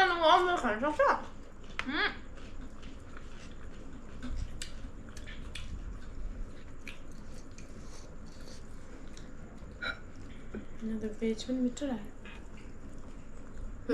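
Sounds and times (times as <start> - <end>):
person chewing food: 1.3 - 10.8, 12.2 - 13.9.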